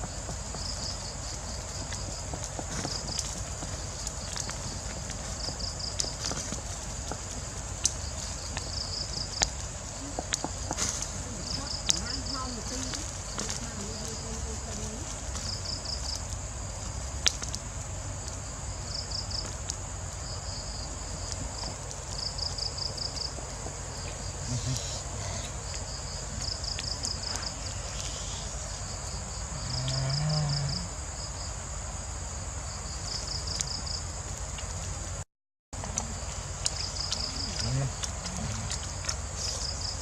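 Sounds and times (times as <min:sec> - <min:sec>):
high insect drone: 0:00.0 - 0:35.2, 0:35.8 - 0:40.0
insect trills: 0:00.0 - 0:35.2, 0:35.8 - 0:40.0.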